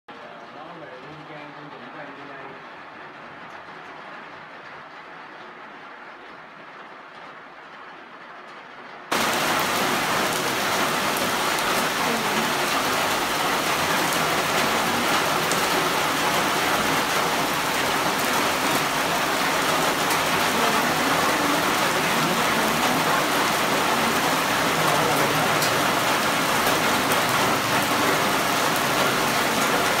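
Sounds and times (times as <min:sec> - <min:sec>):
heavy rain pouring: 0:00.1 - 0:30.0.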